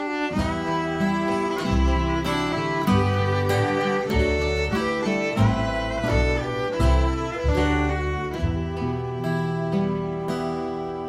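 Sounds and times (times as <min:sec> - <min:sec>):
bass: 0:00.0 - 0:11.0
fiddle playing melody: 0:00.0 - 0:11.0
guitar: 0:00.0 - 0:11.0.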